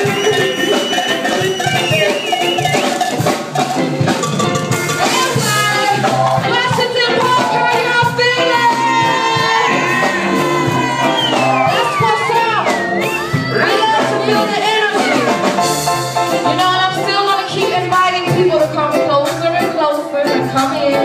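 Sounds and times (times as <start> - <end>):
live reggae band playing: 0.0 - 21.0.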